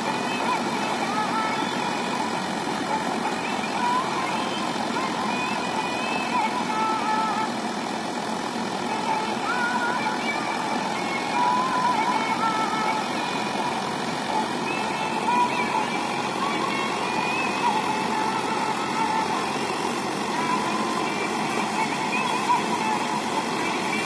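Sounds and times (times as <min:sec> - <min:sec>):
combine harvester machinery din: 0:00.0 - 0:24.0.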